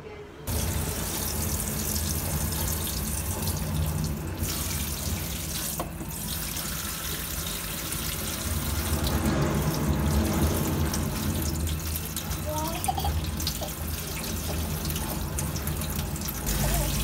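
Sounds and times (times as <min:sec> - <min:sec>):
tap water running into sink: 0:00.5 - 0:17.0.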